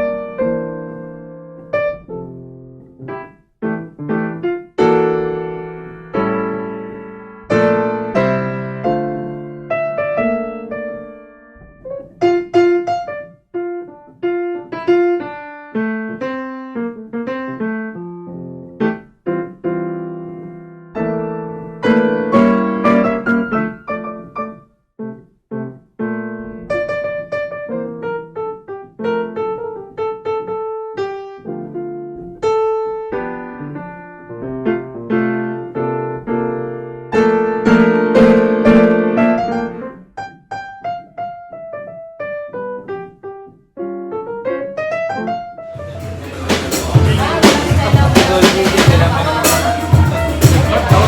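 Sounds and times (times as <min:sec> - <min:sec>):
piano chords and melodic runs: 0:00.0 - 0:51.0.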